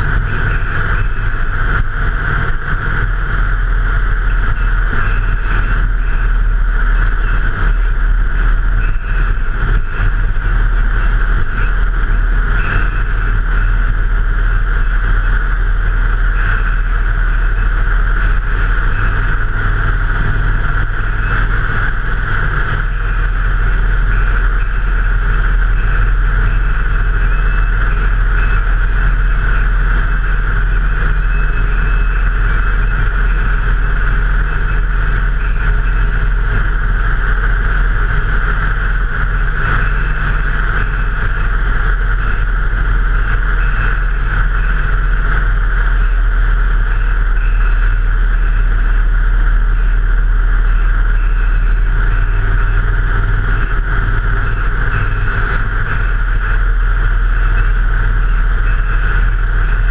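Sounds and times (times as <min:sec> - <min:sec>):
motorcycle engine drone: 0:00.0 - 0:59.9
wind and road noise: 0:00.0 - 0:59.9.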